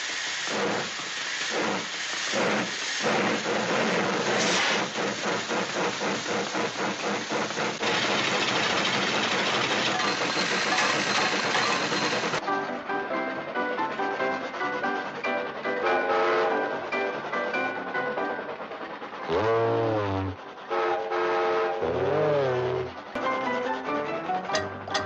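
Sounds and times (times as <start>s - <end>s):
rhythmic chugging: 2.4s - 25.0s.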